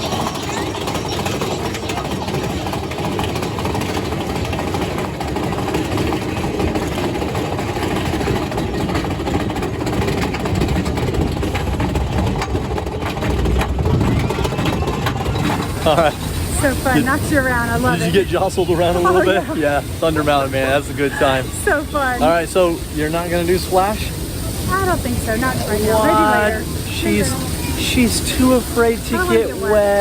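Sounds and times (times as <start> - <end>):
roller coaster rumble: 0.0 - 30.0
train rattling: 0.0 - 30.0.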